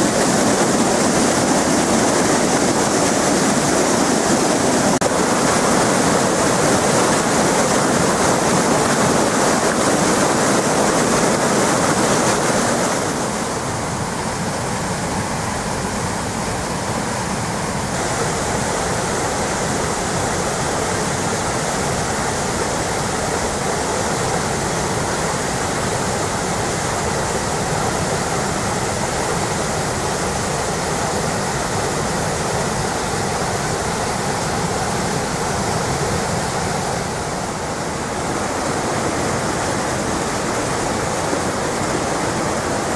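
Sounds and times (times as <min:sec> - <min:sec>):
flooded creek water rushing: 0:00.0 - 0:42.9.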